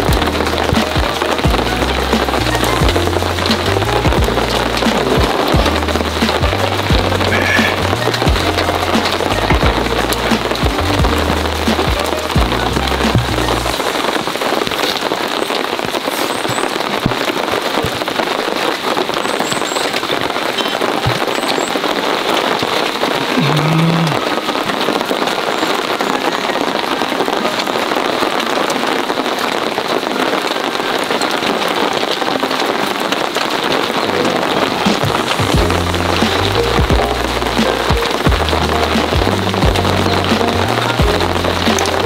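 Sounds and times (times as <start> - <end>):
heavy rain: 0.0 - 42.0.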